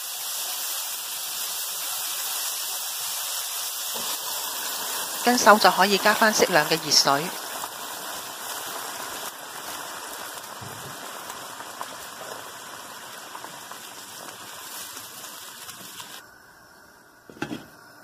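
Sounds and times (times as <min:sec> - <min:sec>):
water sizzling in a frying pan: 0:00.0 - 0:18.0.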